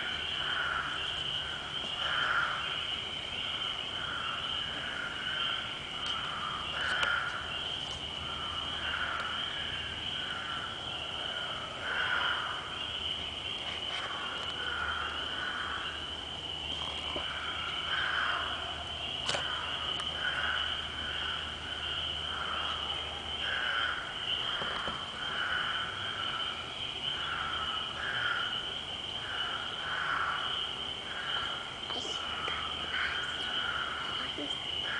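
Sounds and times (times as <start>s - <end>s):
frogs calling: 0.0s - 34.9s.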